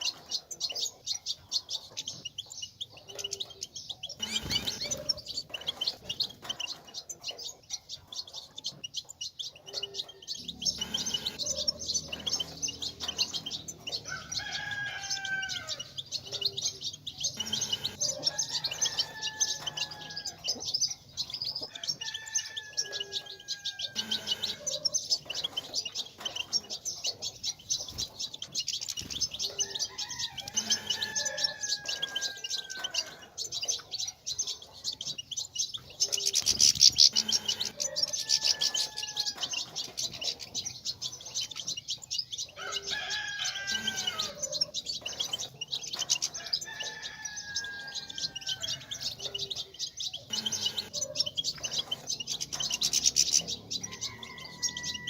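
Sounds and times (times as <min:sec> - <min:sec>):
goldfinches twittering: 0:00.0 - 0:55.0.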